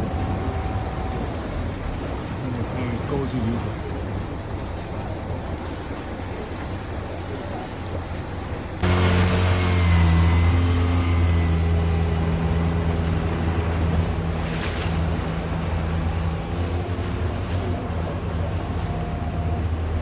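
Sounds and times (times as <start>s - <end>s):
motorboat engine humming: 0.0s - 20.0s.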